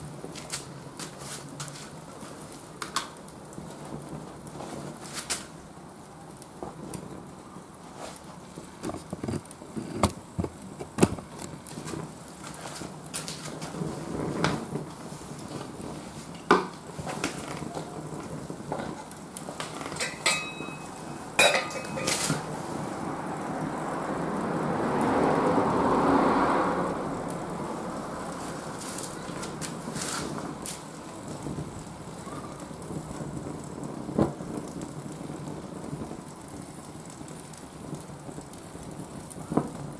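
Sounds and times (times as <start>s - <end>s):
charcoal cracking and popping: 0.0s - 39.9s.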